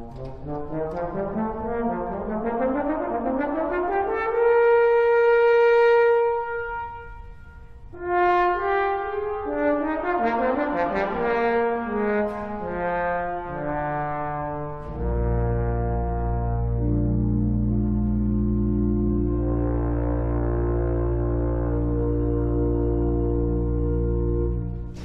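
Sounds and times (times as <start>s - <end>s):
solo trombone melody: 0.0s - 25.0s.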